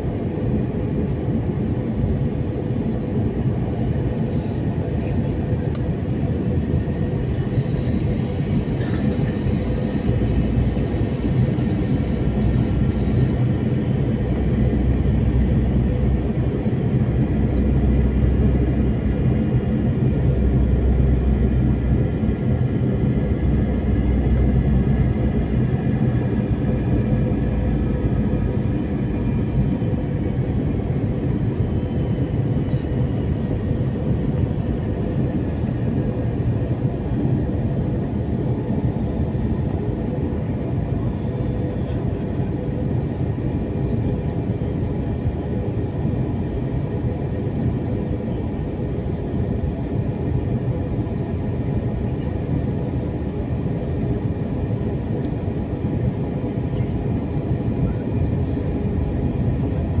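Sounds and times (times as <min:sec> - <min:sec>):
jet engine roar in cabin: 0:00.0 - 1:00.0
faint steady hum tones: 0:00.2 - 1:00.0.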